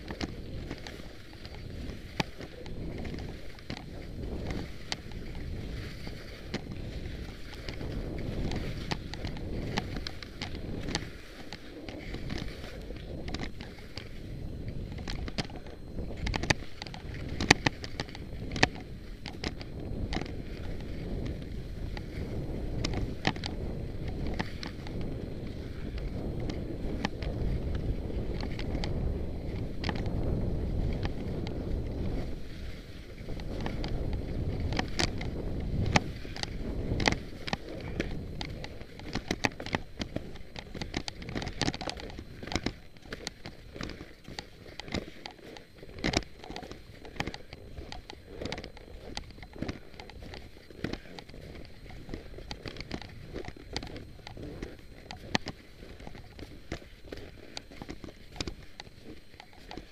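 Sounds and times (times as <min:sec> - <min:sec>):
sharp clicks and ticks: 0:00.0 - 0:59.9
skis sliding over snow: 0:00.0 - 0:59.9
wind on microphone: 0:00.0 - 0:59.9.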